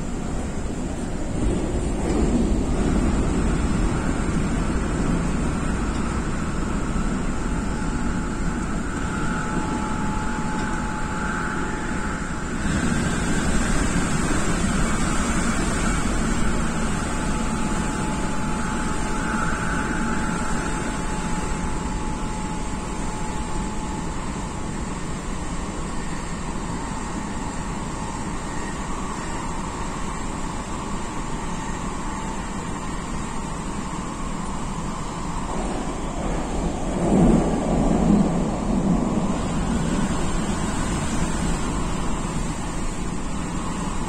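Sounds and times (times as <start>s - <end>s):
thin steady whine: 0.0s - 44.0s
train rumbling at speed: 0.0s - 44.0s.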